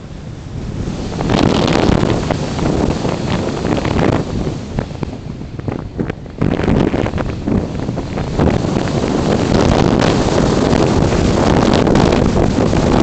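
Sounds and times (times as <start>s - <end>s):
wind buffeting crackles: 0.0s - 13.0s
wind rushing over microphone: 0.0s - 13.0s.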